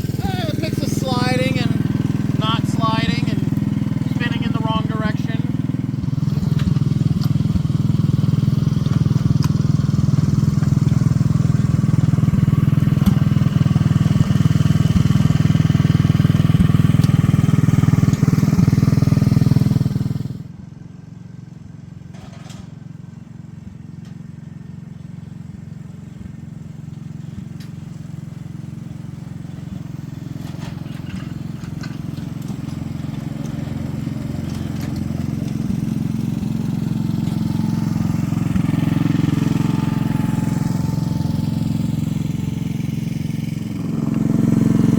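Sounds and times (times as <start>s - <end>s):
locomotive engine running hard: 0.0s - 21.3s, 22.2s - 44.9s.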